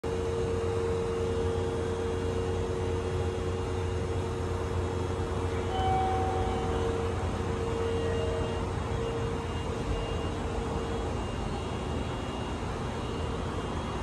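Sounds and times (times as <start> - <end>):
electric train humming: 0.1 - 14.0
steady mid-pitched tone: 0.1 - 14.0.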